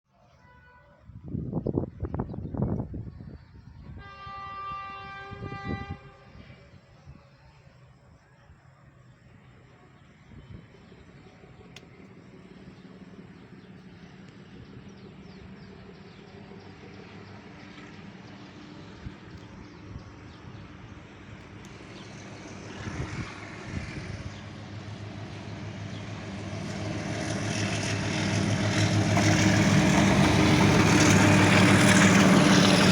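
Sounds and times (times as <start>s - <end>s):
motor engine approaching: 6.0s - 32.9s.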